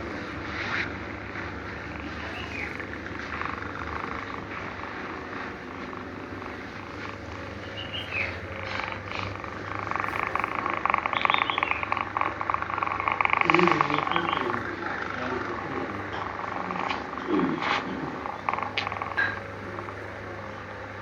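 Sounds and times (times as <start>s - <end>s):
cat snoring: 0.0s - 20.4s.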